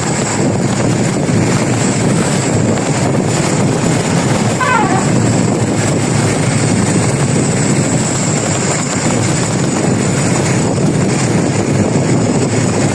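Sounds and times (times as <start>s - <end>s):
road vehicle engine and tyres: 0.0s - 12.9s.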